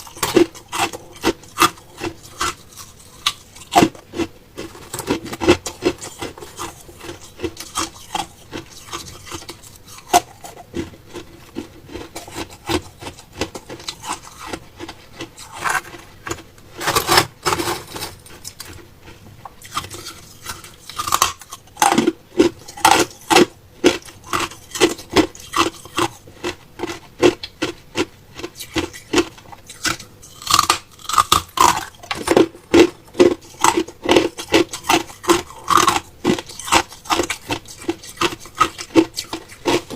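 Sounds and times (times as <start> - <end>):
ice crunched between teeth: 0.0 - 18.8, 19.6 - 39.9.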